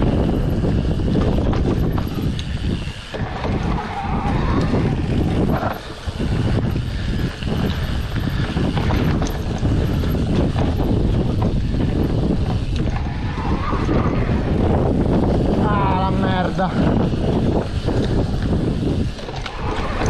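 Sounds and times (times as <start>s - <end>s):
bike knocks and rattles: 0.0s - 20.0s
low riding rumble: 0.0s - 20.0s
wind buffeting microphone: 0.0s - 20.0s.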